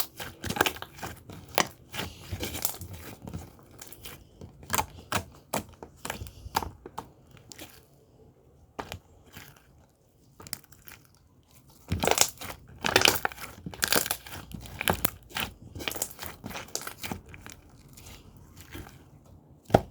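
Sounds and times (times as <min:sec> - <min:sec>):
crinkling and crunching: 0:00.0 - 0:19.9.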